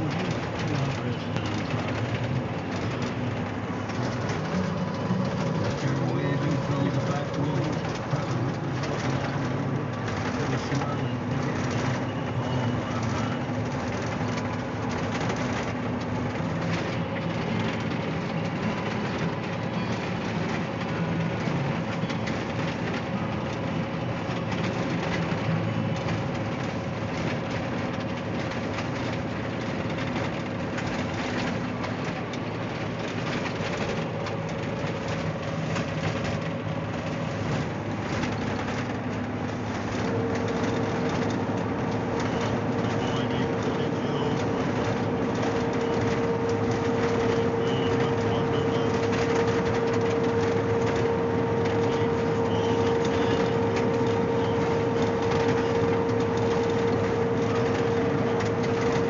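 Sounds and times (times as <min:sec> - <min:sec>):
road noise: 0:00.0 - 0:59.0
truck diesel engine running: 0:00.0 - 0:59.0.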